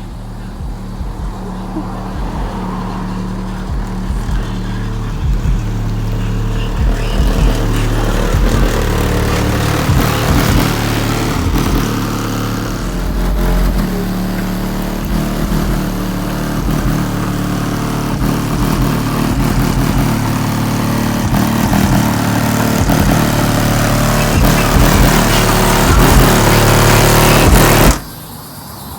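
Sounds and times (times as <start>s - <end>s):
bass-heavy rap music: 0.0s - 28.9s.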